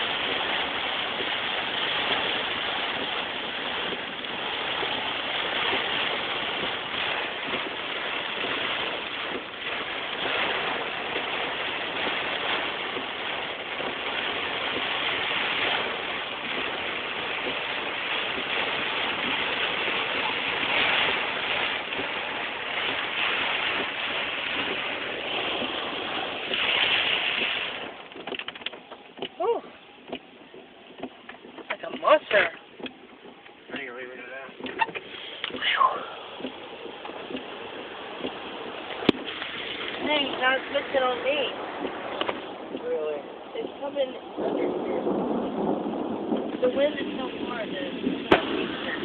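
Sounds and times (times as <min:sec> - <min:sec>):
heavy rain: 0:00.0 - 0:49.0
storm wind gusts: 0:00.0 - 0:49.0.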